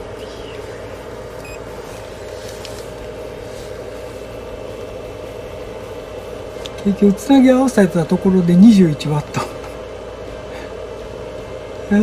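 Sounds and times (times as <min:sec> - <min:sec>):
steady drone: 0:00.0 - 0:12.0.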